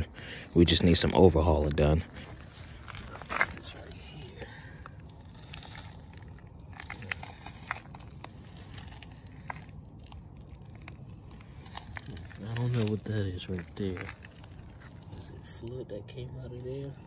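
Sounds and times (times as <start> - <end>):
footsteps on gritty driveway: 0.0 - 15.9
low steady rumble: 0.0 - 17.0.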